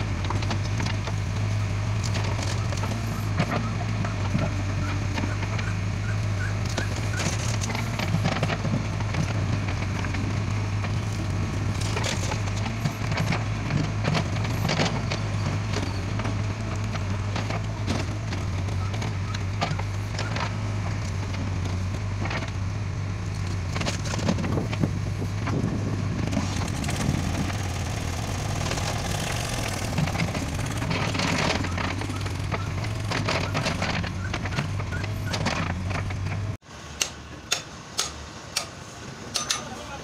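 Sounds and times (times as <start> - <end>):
earth and rocks scraping and clattering: 0.0 - 5.7, 6.7 - 22.6, 23.3 - 36.6
diesel engine running: 0.0 - 40.0.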